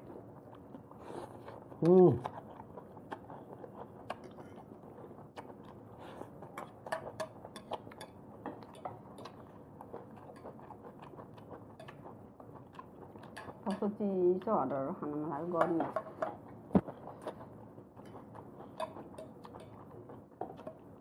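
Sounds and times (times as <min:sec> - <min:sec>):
chewing with clicks and smacks: 0:00.0 - 0:14.6, 0:16.0 - 0:21.0.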